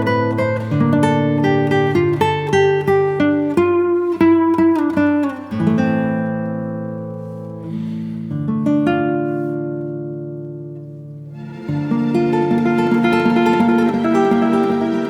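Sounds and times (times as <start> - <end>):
acoustic guitar plucking and strumming: 0.0 - 15.0.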